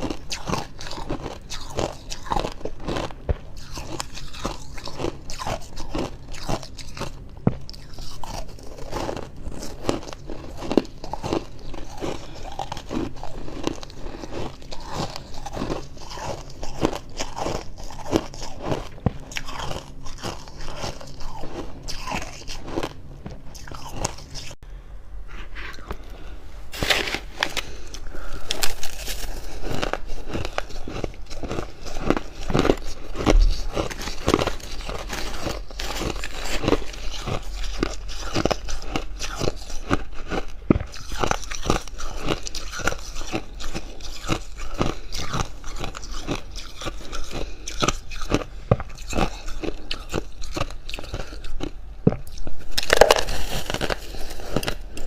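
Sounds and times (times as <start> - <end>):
chewing crunchy frost: 0.0 - 24.6, 25.4 - 55.0.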